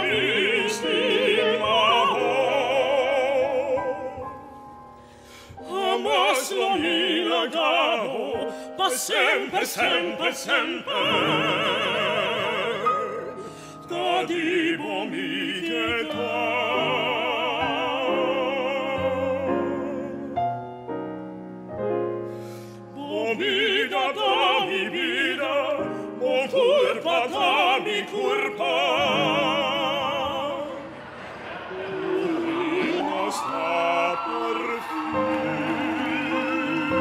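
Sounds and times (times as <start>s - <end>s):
operatic singing with vibrato: 0.0s - 20.5s, 22.9s - 37.0s
classical accompaniment: 0.0s - 37.0s.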